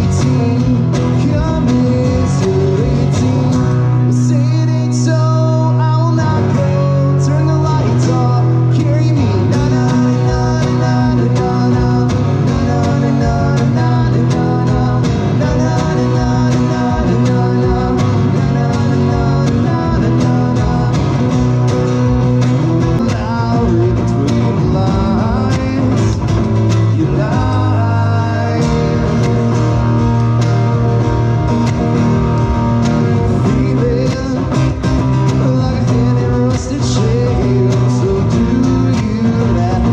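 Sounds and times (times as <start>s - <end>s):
amplified electric guitar: 0.0s - 39.9s
strummed acoustic guitar: 0.0s - 39.9s.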